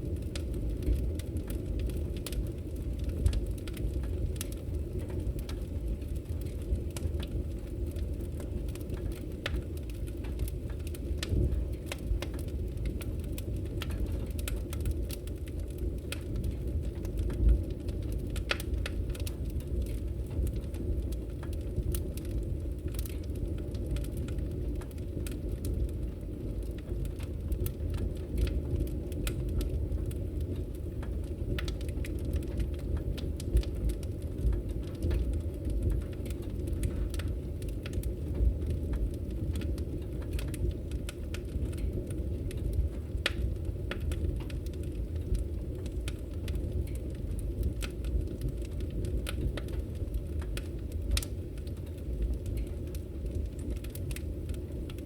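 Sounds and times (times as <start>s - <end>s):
fire crackles and pops: 0.0s - 55.0s
low rumble of flames: 0.0s - 55.0s.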